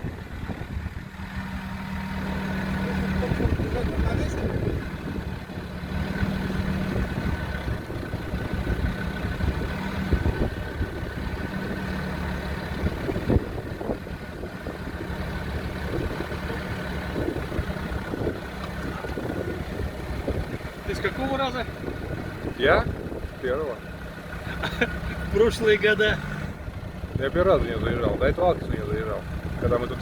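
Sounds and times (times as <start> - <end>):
vehicle engine running at low revs: 0.0 - 30.0.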